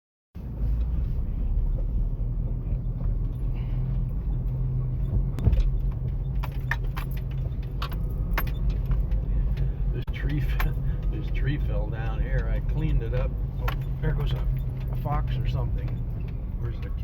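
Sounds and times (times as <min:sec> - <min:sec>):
vehicle engine at low revs: 0:00.4 - 0:17.0.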